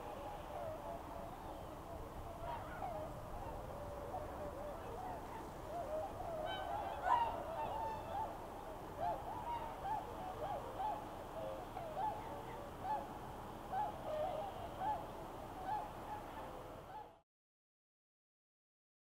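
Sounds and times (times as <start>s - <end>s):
swans calling: 0.0s - 17.2s.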